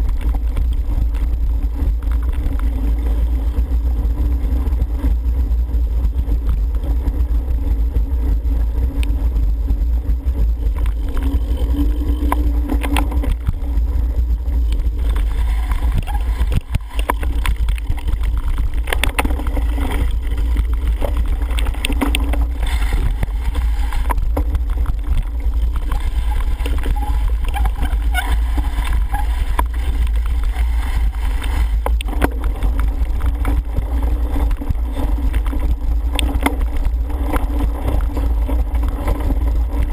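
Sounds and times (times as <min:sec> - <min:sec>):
bike rattling over rough ground: 0:00.0 - 0:39.9
wind buffeting microphone: 0:00.0 - 0:39.9.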